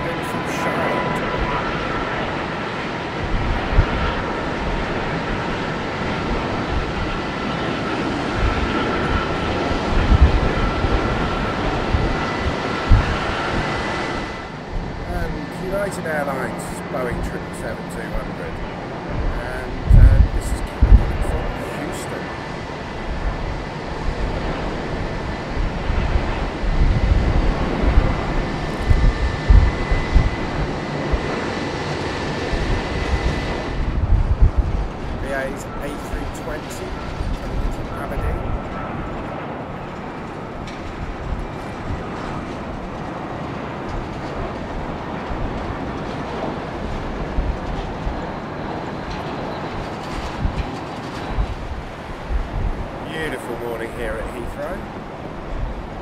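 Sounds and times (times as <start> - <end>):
jet engines on approach: 0.0 - 56.0
low rumble surges: 0.0 - 56.0.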